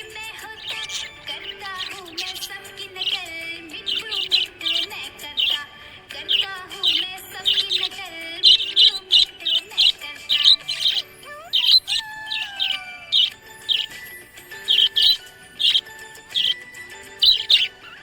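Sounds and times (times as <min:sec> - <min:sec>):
budgerigar chirping: 0:00.0 - 0:18.0.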